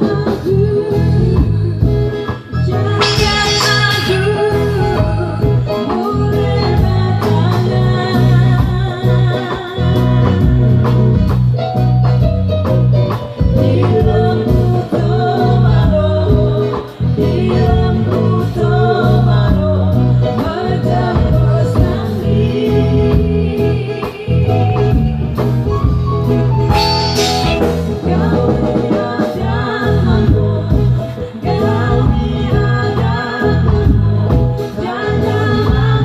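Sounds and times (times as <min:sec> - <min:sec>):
band playing with singing: 0:00.0 - 0:36.0.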